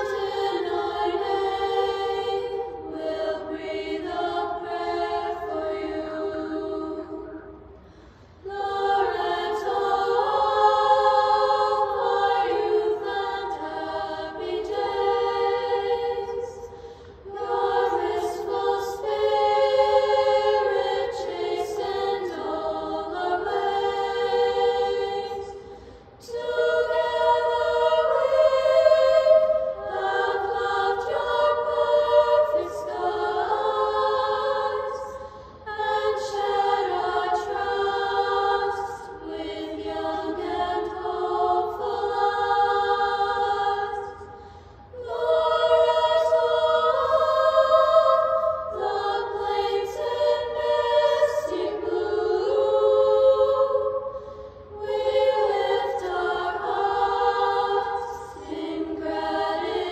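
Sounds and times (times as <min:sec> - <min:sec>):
girls' choir singing a cappella: 0:00.0 - 0:59.9.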